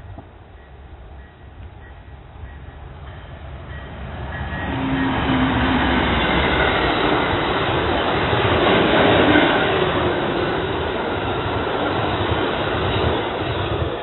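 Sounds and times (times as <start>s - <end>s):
passenger train passing: 0.0s - 14.0s.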